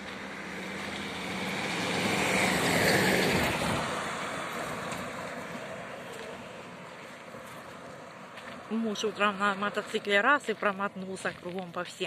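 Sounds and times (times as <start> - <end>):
van passing on road: 0.0 - 12.0.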